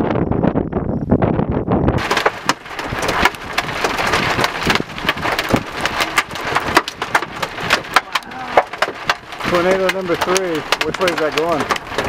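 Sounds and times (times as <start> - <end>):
wind noise on microphone: 0.0 - 12.0
raindrops tapping microphone: 2.0 - 12.0.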